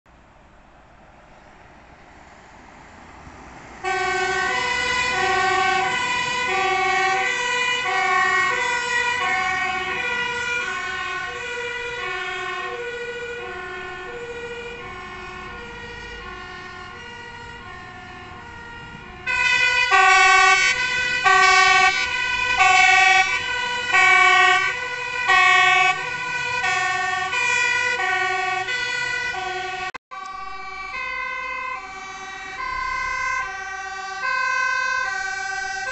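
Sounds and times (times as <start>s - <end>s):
two-tone fire engine siren: 3.0s - 35.9s.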